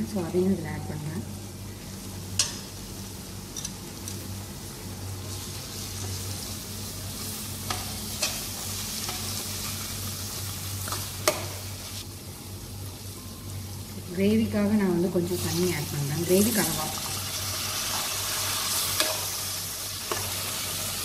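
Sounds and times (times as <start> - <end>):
food sizzling in a pot: 0.0 - 21.0.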